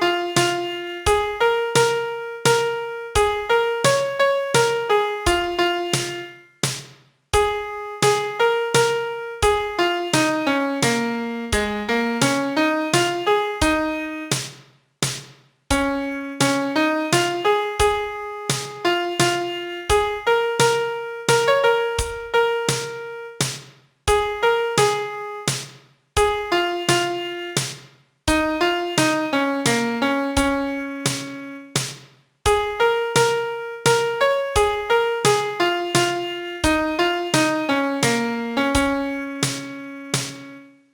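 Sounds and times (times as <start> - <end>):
piano melody: 0.0 - 6.6, 7.4 - 14.4, 15.7 - 23.5, 24.1 - 25.5, 26.2 - 27.6, 28.3 - 31.8, 32.5 - 40.8.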